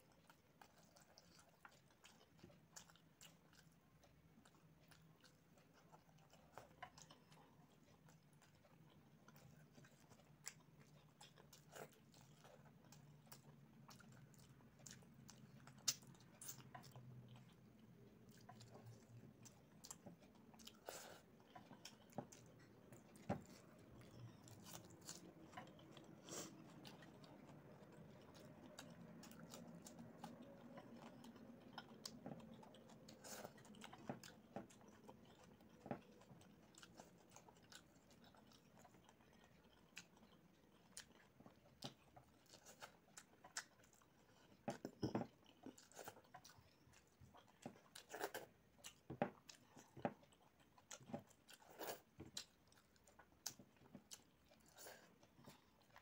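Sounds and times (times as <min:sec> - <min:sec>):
soft chewing: 0:00.0 - 0:56.0.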